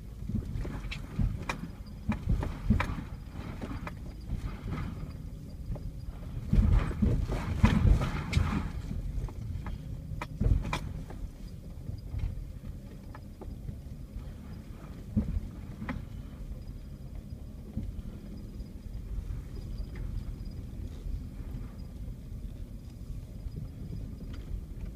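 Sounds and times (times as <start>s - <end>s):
knocks and rattles over bumps: 0.0s - 24.9s
vehicle low rumble: 0.0s - 24.9s.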